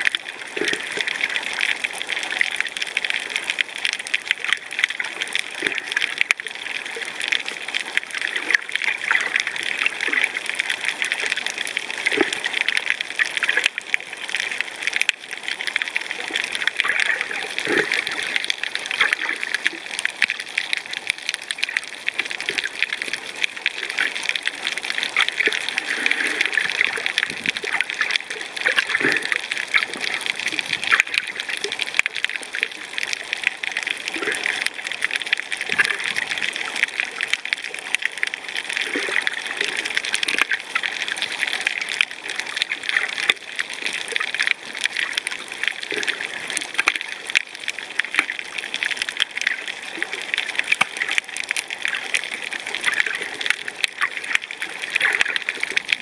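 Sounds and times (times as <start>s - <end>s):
bubbling gurgling water: 0.0s - 56.0s
dense crackle of tiny clicks: 0.0s - 56.0s.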